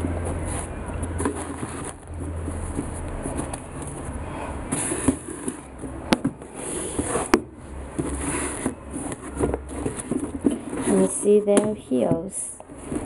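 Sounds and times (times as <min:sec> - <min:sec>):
shoes rustling in cardboard box: 0:00.0 - 0:13.0.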